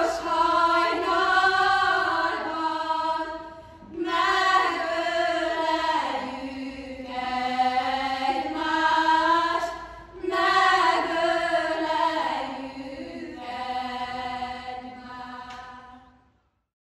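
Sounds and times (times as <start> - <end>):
slow singing in long notes: 0.0 - 16.3.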